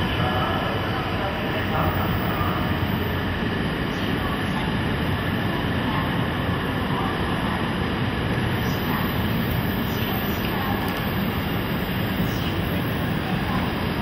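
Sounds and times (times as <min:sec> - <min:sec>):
train pulling into station: 0:00.0 - 0:14.0
train rumbling over rails: 0:00.0 - 0:14.0.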